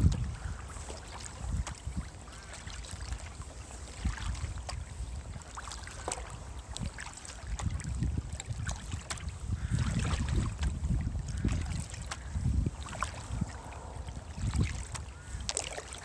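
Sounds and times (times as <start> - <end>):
kayak paddle strokes in water: 0.0 - 16.0
water drips and splashes: 0.0 - 16.0
wind buffeting microphone: 0.0 - 16.0.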